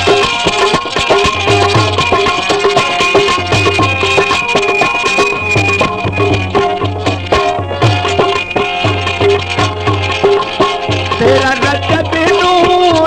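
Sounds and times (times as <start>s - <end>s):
drums keeping rhythm: 0.0s - 13.0s
instrumental melody: 0.0s - 13.0s.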